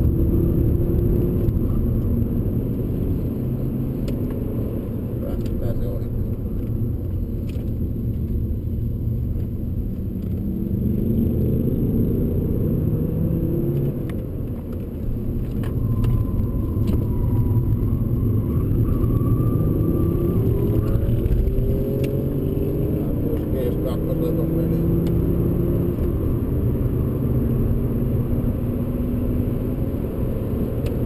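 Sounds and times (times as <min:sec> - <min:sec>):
road rumble: 0:00.0 - 0:31.0.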